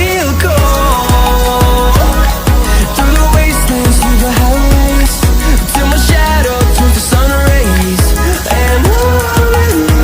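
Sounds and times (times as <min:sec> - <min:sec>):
electronic music with deep bass: 0:00.0 - 0:10.0.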